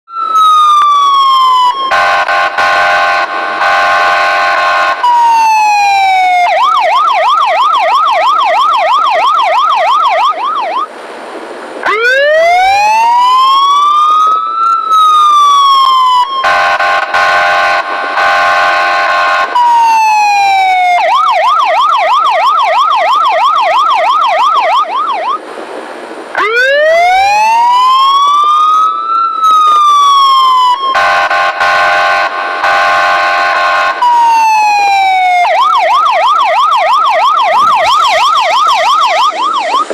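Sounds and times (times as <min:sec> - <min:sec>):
electronic police siren: 0:00.1 - 0:10.9, 0:11.8 - 0:25.4, 0:26.3 - 0:39.9.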